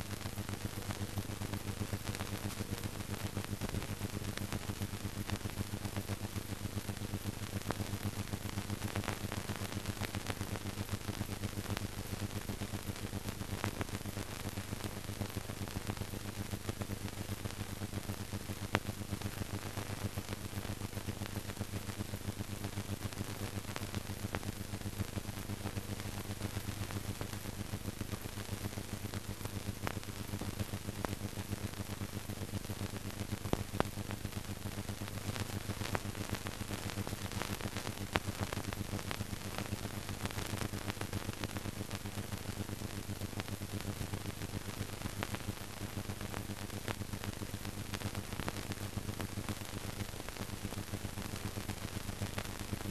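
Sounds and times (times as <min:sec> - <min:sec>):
faint crackles and clicks: 0:00.0 - 0:52.9
film soundtrack hiss and hum: 0:00.0 - 0:52.9.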